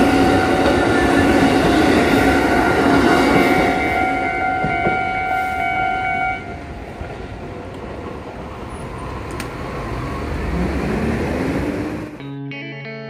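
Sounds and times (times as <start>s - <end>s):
street traffic rumble: 0.0s - 12.2s.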